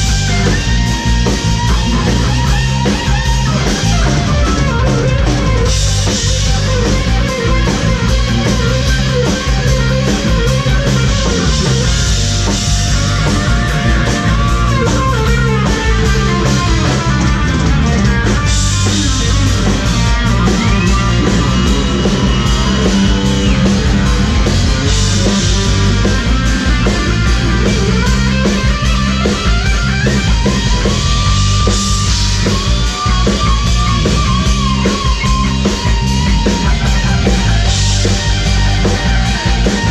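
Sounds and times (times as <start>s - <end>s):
bass guitar: 0.0s - 39.9s
drum kit: 0.0s - 39.9s
rock guitar lead: 0.0s - 39.9s.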